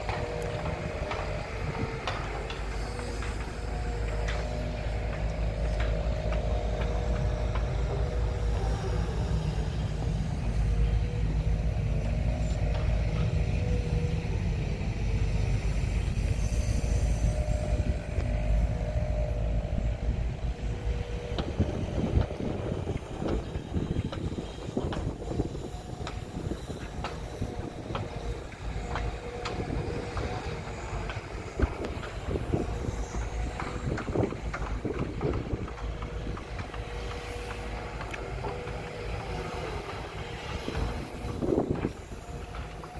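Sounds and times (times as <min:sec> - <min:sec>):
engine whine: 0:00.0 - 0:42.9
excavator diesel engine running: 0:00.0 - 0:42.9.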